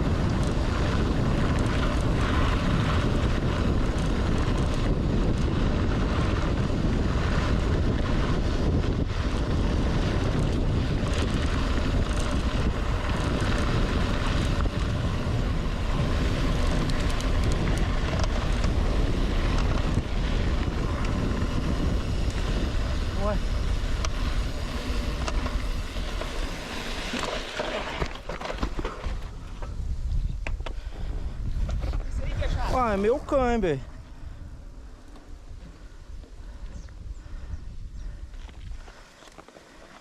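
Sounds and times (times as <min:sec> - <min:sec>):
wind rushing over microphone: 0:00.0 - 0:39.1.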